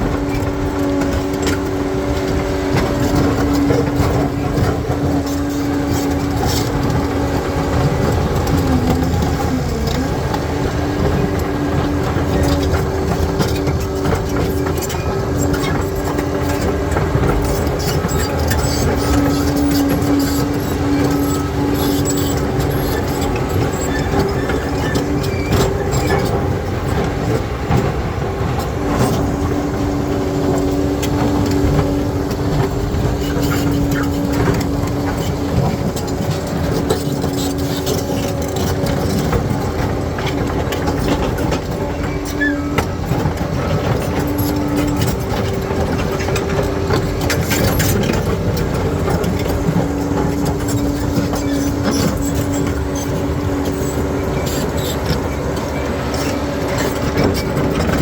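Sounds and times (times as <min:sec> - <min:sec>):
bulldozer diesel engine running: 0:00.0 - 0:58.0
steel tracks clanking: 0:00.0 - 0:58.0.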